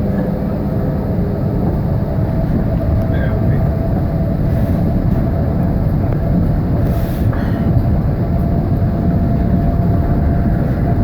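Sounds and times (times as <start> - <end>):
train carriage rumbling on track: 0.0 - 11.0.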